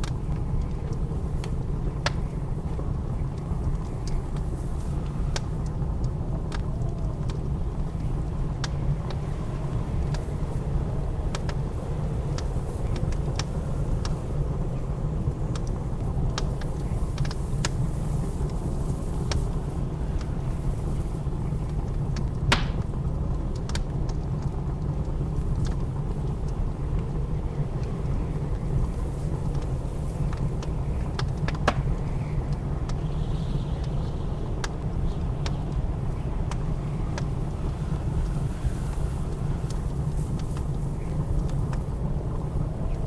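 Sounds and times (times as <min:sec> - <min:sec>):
blizzard wind rumbling: 0:00.0 - 0:43.0
wood fire crackling: 0:00.0 - 0:43.0.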